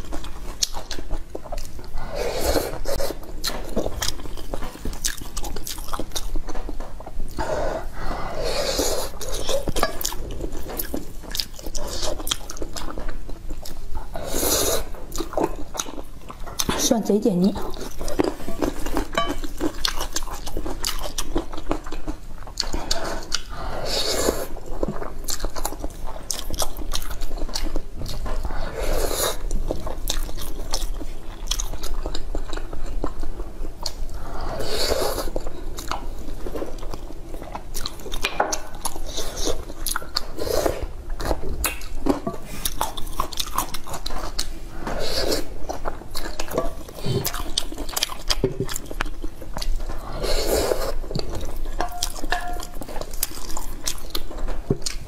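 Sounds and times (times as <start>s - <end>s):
wet chewing and mouth smacking: 0.0s - 8.0s, 8.9s - 23.7s, 24.3s - 28.7s, 29.3s - 34.2s, 35.0s - 55.0s.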